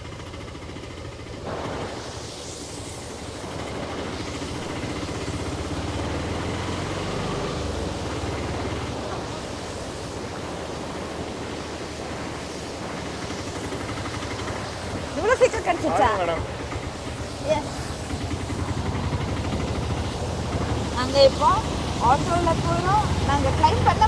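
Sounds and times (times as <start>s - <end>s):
auto rickshaw engine running: 0.0s - 24.0s
road noise: 0.0s - 24.0s.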